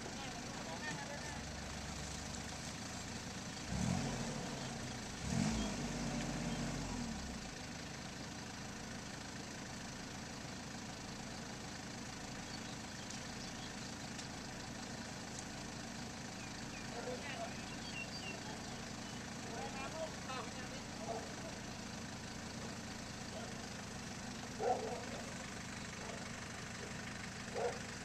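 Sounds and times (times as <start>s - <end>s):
tractor engine revving: 0.0s - 7.6s, 12.2s - 28.0s
tractor engines running: 0.0s - 28.0s.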